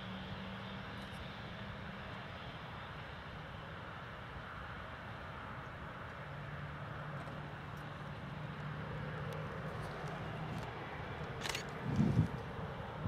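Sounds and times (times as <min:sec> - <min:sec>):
distant jet engine hum: 0:00.0 - 0:13.0.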